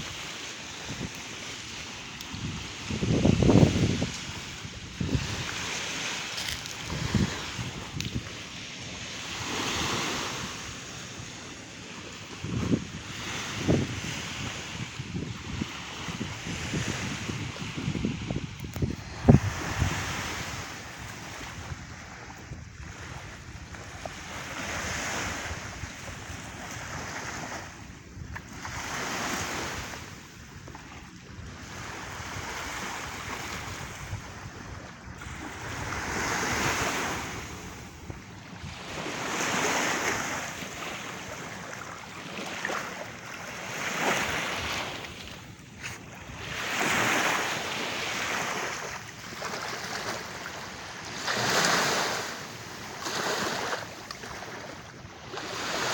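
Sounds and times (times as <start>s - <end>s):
wind buffeting microphone: 0.0s - 11.4s, 12.2s - 52.2s
sea surf breaking on beach: 0.0s - 30.3s, 31.0s - 55.9s.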